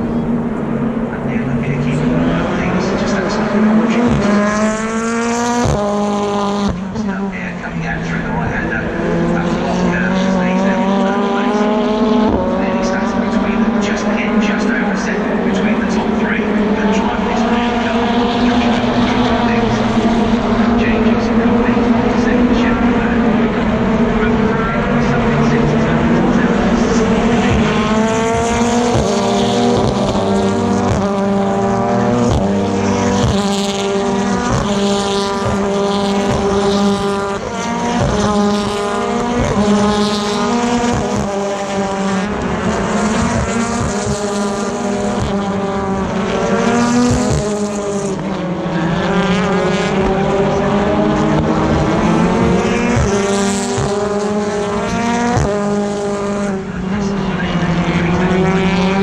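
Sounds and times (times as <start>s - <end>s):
drone of race engines: 0.0s - 59.0s
race cars accelerating past: 0.0s - 59.0s.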